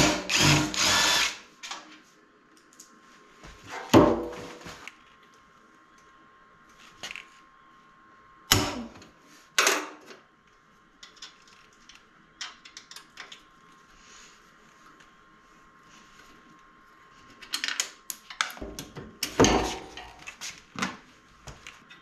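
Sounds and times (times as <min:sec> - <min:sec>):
faint high hum: 0:00.0 - 0:22.0.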